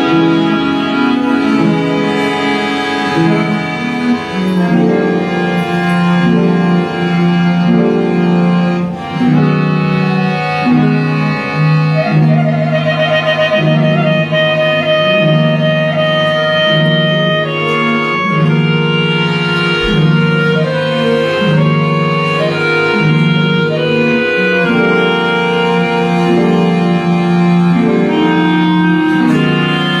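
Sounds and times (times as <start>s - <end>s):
accordion: 0.0s - 30.0s
bowed double bass: 0.0s - 30.0s
clarinet: 0.0s - 30.0s
plucked string instrument: 0.0s - 30.0s.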